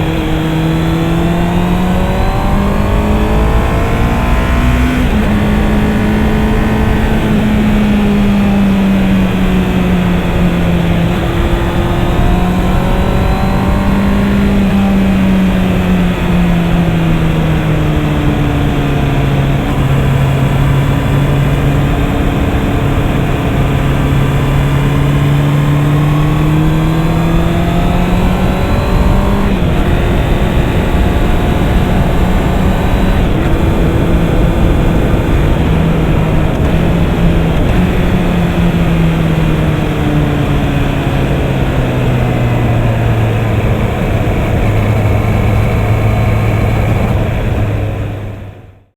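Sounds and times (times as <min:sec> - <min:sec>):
wind rush: 0:00.0 - 0:48.5
motorcycle engine running: 0:00.0 - 0:48.9.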